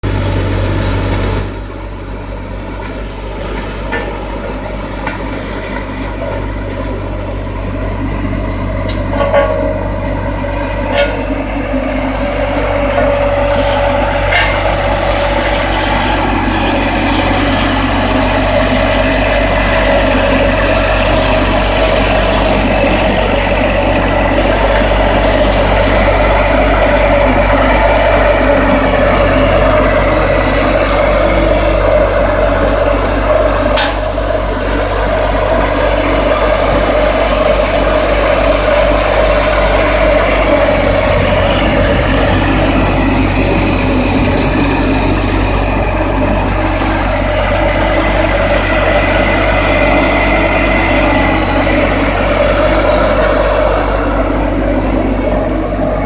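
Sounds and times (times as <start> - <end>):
road roller diesel engine running: 0.0 - 56.0
steady mid-pitched whine: 0.1 - 56.0.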